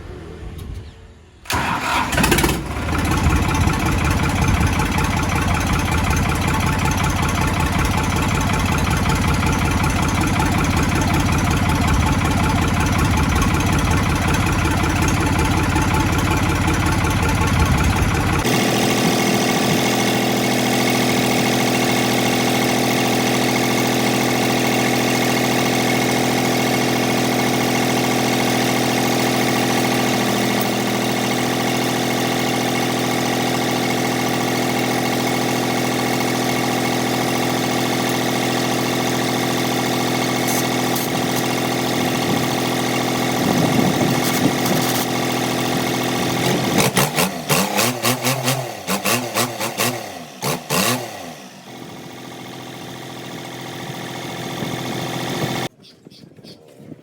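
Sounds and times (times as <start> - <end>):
tractor diesel engine starting and running: 0.0 - 55.7.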